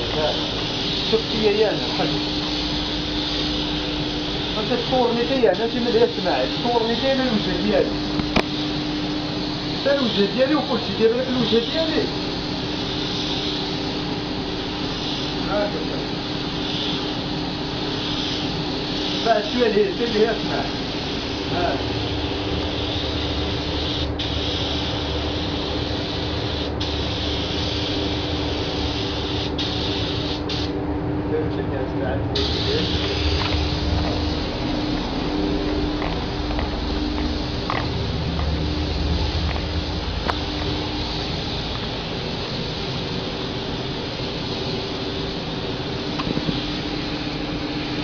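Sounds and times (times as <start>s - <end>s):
spray gun hissing: 0.0s - 30.8s, 32.4s - 48.0s
steady low hum: 0.0s - 48.0s.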